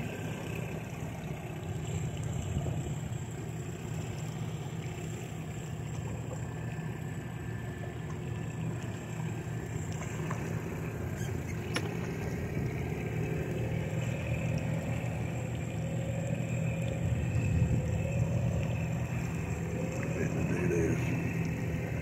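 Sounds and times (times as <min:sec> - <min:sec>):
boat motor droning: 0:00.0 - 0:22.0
faint rising whine: 0:00.0 - 0:22.0.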